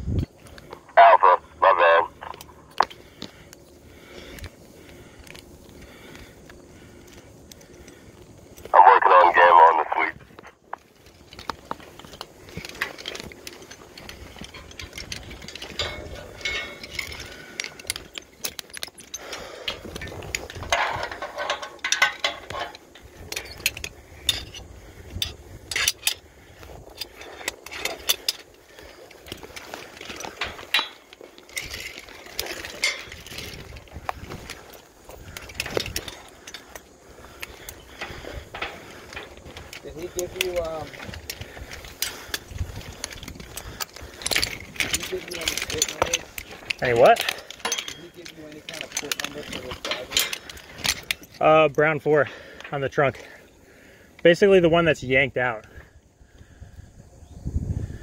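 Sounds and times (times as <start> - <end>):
gear clicking and clinking: 0.0 - 56.4.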